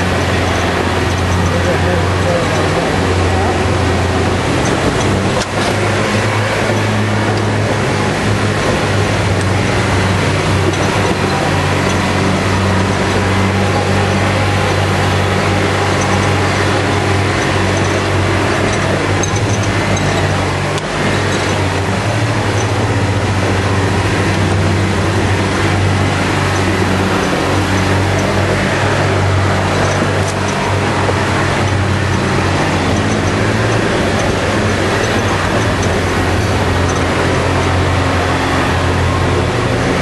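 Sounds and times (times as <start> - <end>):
off-road vehicle engine running: 0.0 - 40.0.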